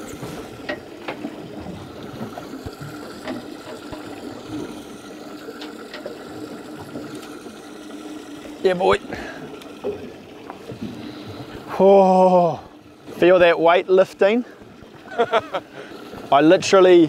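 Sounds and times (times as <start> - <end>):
pump hum: 0.0 - 17.0
water trickling and churning: 0.0 - 17.0.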